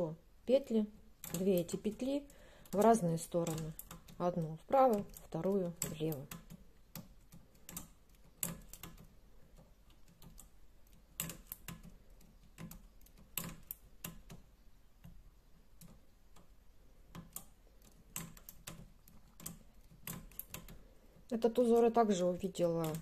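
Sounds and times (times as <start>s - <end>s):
tool clicking against metal needles: 0.6s - 23.0s.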